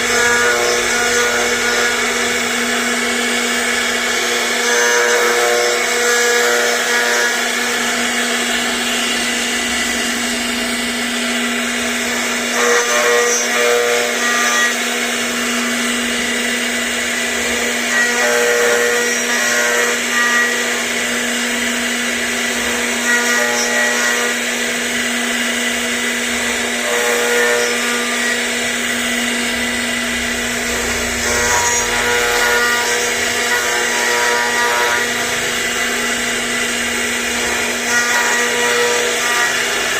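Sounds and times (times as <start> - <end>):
cnc router spindle whining: 0.0 - 39.9.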